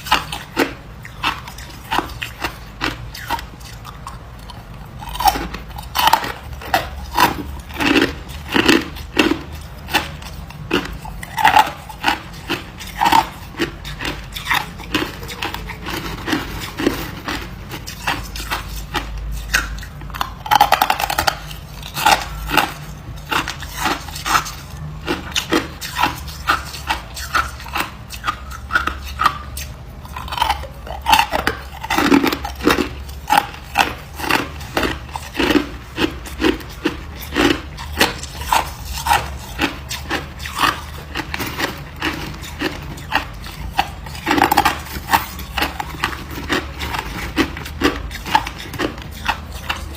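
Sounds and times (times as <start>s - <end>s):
grinding crunches: 0.0s - 49.9s.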